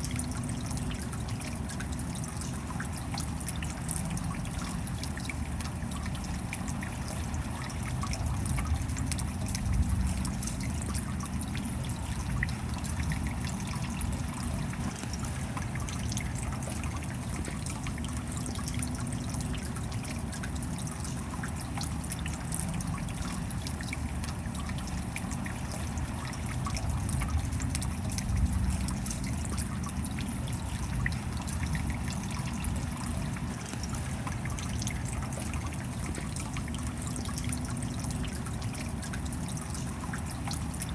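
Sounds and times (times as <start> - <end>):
raindrop ticks: 0.0 - 40.9
steady rain: 0.0 - 40.9.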